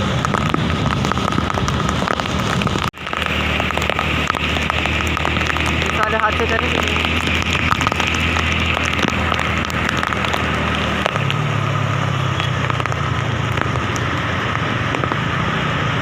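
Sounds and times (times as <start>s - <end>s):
heavy rain pattering: 0.0s - 16.0s
vehicle engine hum: 0.0s - 16.0s.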